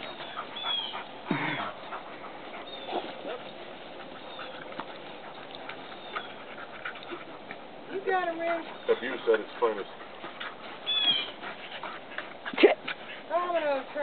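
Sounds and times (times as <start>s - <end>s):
dogs scuffling on grass: 0.0s - 14.0s.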